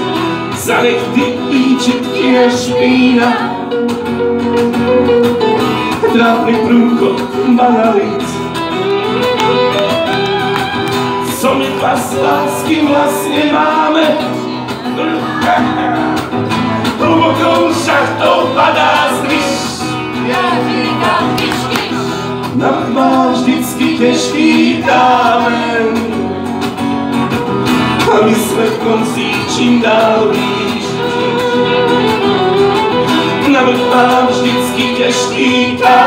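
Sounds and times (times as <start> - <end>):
strummed acoustic guitar: 0.0 - 36.0
men singing: 0.5 - 4.0, 5.9 - 8.4, 11.2 - 26.4, 27.8 - 36.0.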